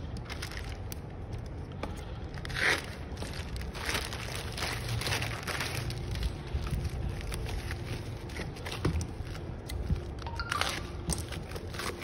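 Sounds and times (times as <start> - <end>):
plastic ripping: 2.3 - 12.0
plastic mailer crinkling: 2.4 - 12.0.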